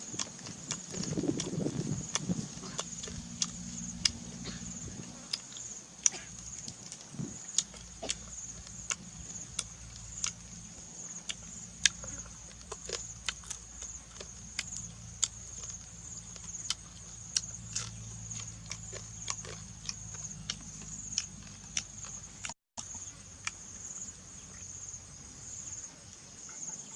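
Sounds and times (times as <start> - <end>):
insect drone: 0.0 - 26.9.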